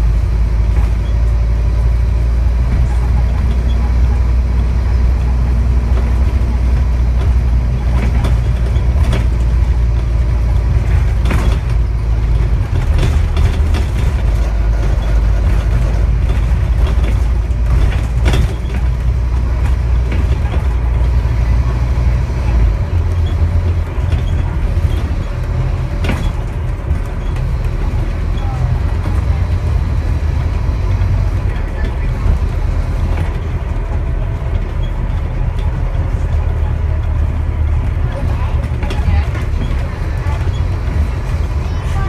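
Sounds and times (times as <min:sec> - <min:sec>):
bus engine droning: 0:00.0 - 0:42.0
bodywork knocks and rattles: 0:00.4 - 0:42.0.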